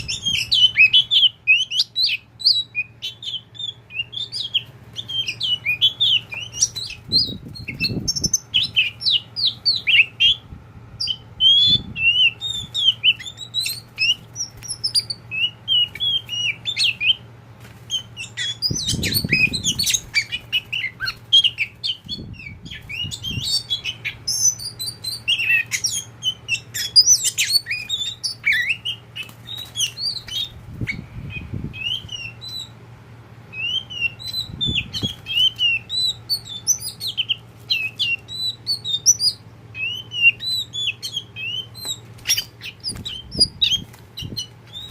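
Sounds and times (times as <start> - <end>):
bird singing chirps and whistles: 0.0 - 10.4, 11.0 - 17.2, 17.9 - 32.8, 33.5 - 44.9.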